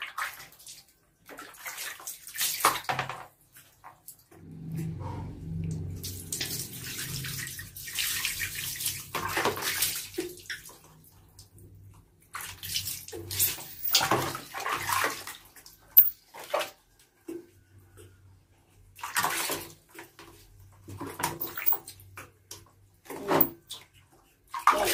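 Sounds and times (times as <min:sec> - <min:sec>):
water splashing and dripping: 0:00.0 - 0:04.4, 0:05.7 - 0:18.1, 0:18.9 - 0:22.8.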